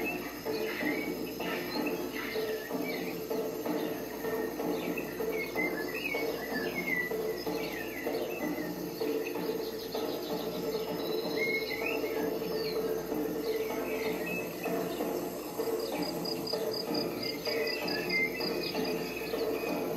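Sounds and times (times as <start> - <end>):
chirring insects: 0.0 - 19.9.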